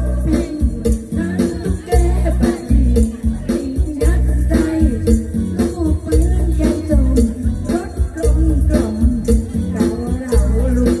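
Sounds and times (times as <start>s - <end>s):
loud amplified music: 0.0s - 11.0s
woman singing into a microphone: 0.0s - 11.0s.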